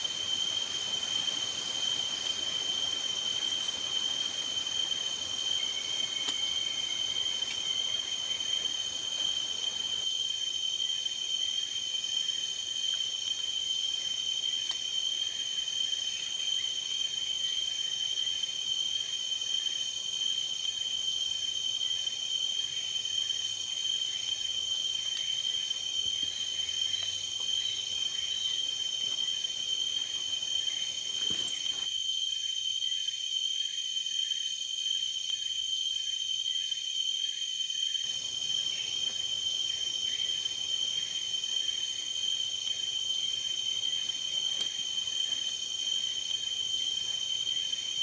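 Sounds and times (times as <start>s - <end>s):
forest insects ringing: 0.0s - 48.0s.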